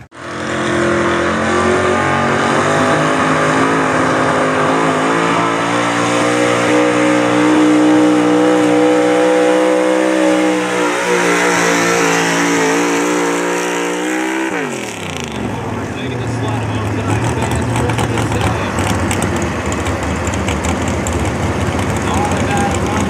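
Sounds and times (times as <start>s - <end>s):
truck engine at full throttle: 0.0s - 23.0s.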